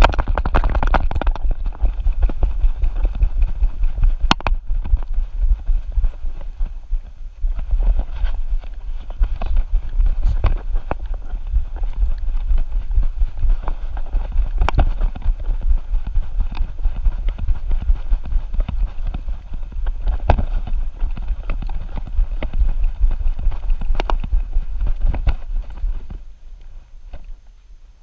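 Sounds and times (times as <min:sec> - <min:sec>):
wind rumble: 0:00.0 - 0:28.0.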